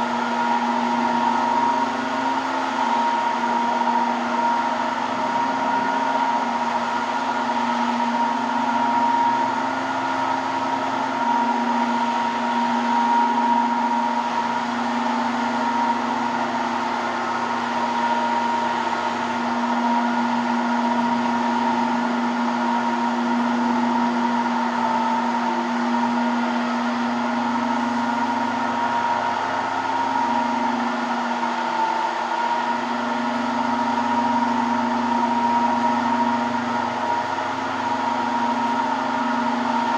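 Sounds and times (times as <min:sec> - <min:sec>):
polishing machine motor whining: 0:00.0 - 0:39.9.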